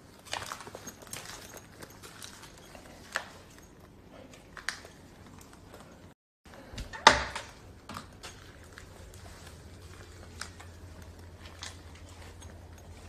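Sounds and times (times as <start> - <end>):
footsteps in a room: 0.0 - 13.0.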